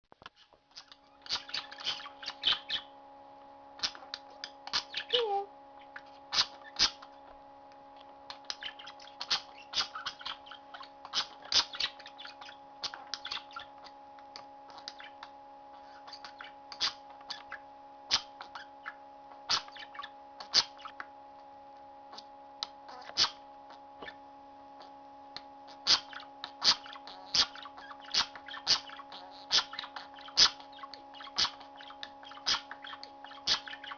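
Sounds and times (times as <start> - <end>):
low electrical hum: 0.1 - 33.9
budgies chirping: 0.2 - 3.0, 3.8 - 7.4, 8.3 - 21.1, 22.9 - 24.2, 25.7 - 33.9.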